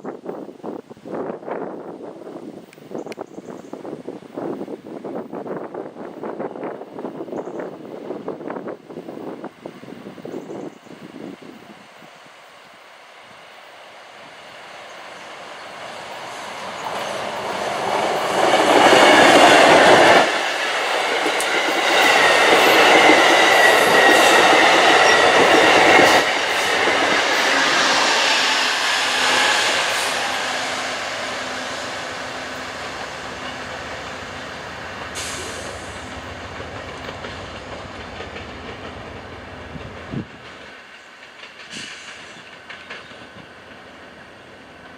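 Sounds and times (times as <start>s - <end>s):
passenger train passing: 0.0s - 44.9s.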